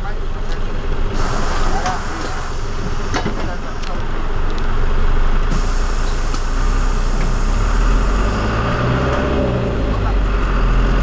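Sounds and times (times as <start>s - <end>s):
minibus engine and road noise: 0.0s - 11.0s.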